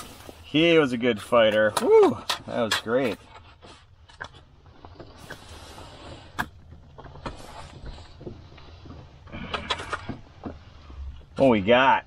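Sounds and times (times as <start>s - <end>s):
scraping and rustling: 0.0s - 11.6s.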